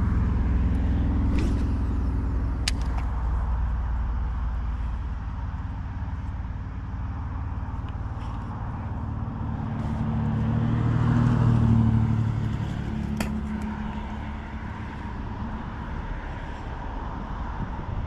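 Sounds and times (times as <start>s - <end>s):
vehicle engine passing: 0.0s - 17.9s.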